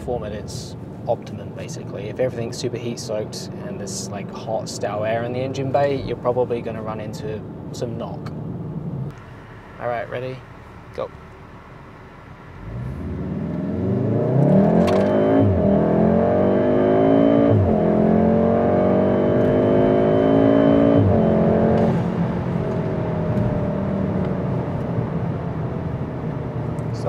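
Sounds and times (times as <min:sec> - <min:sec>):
car engine accelerating: 0:01.7 - 0:27.0.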